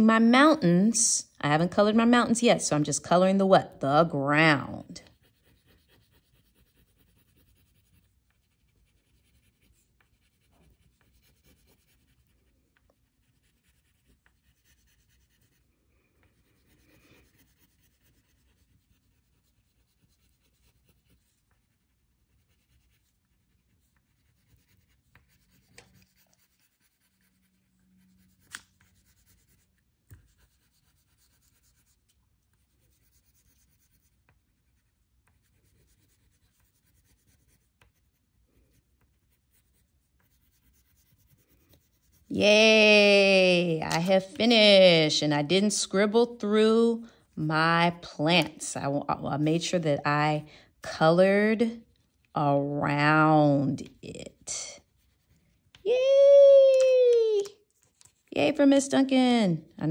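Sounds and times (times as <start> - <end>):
crayon scratching on paper: 3.8 - 55.8.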